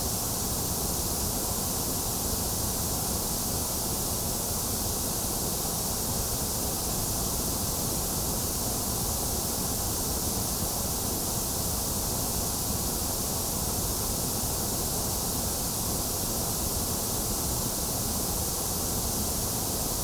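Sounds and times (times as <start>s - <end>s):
white noise hiss: 0.0s - 20.0s.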